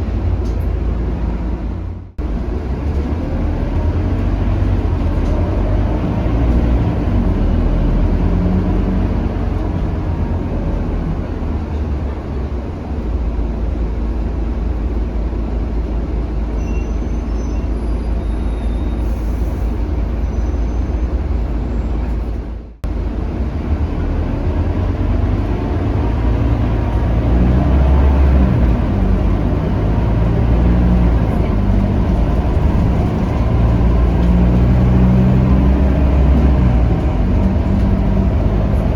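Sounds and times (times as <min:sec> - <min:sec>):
bus engine drone: 0:00.0 - 0:38.9
road and tyre noise: 0:00.0 - 0:38.9.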